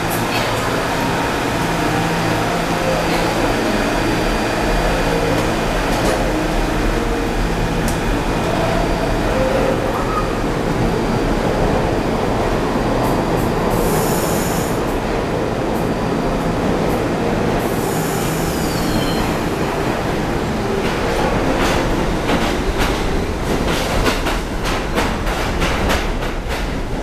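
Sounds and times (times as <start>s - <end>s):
subway train rumble: 0.0s - 27.0s.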